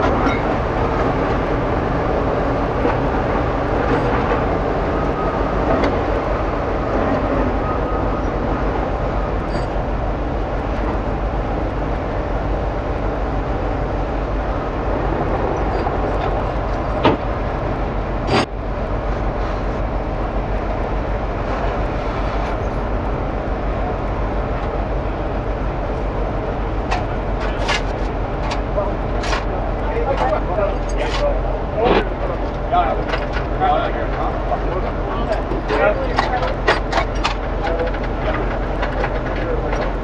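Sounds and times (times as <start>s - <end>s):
heavy truck engine drone: 0.0s - 40.0s
road noise: 0.0s - 40.0s.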